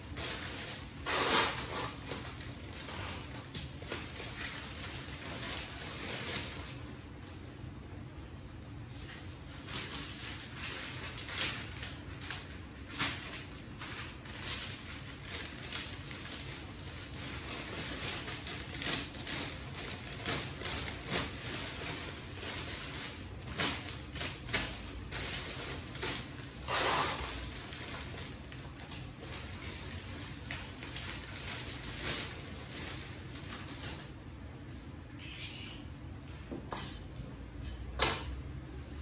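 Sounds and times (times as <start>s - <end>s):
loud paper crackle: 0.0s - 7.2s, 8.9s - 34.2s
paper rustling and crinkling: 0.0s - 7.4s, 8.8s - 34.2s.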